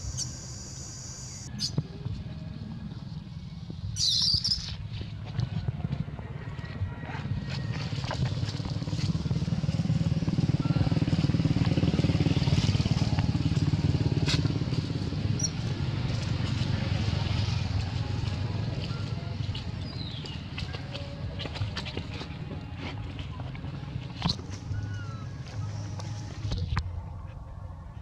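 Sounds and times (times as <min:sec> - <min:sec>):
engine droning: 0:04.7 - 0:28.0.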